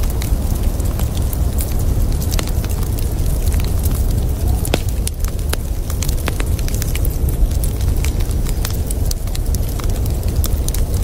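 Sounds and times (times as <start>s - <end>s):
blizzard wind rumbling: 0.0s - 11.0s
wood fire crackling and popping: 0.0s - 11.0s.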